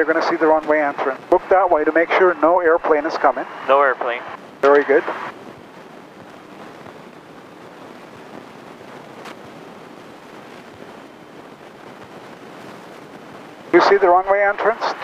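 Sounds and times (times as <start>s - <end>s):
light airplane cabin noise: 0.0s - 15.0s.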